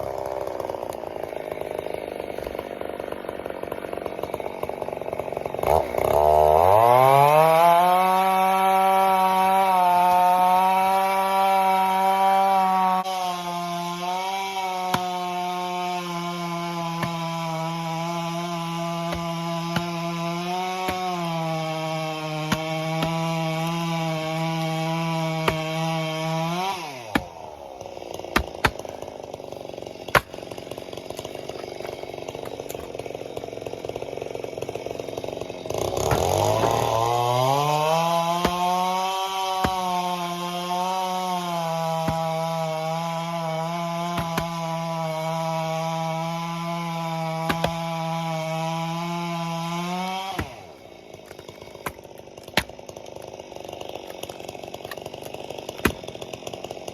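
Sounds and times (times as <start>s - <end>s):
chainsaw cutting firewood: 0.0s - 56.9s.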